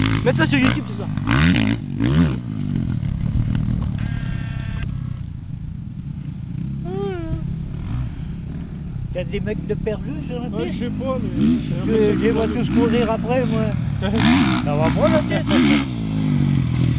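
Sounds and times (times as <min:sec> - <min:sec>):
dirt bikes revving: 0:00.0 - 0:16.9.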